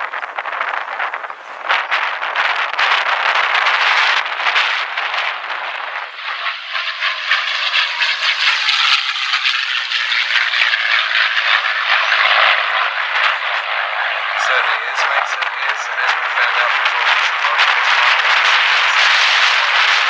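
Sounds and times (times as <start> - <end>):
propeller aircraft flying past: 0.7 - 20.0.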